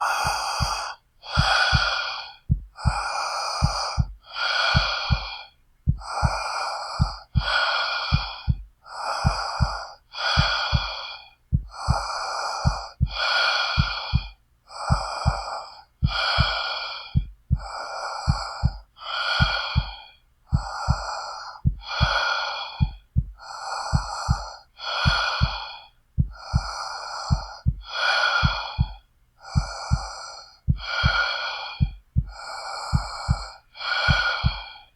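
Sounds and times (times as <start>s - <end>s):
heartbeat thumps: 0.0s - 34.8s
heavy rapid breathing: 0.0s - 34.9s.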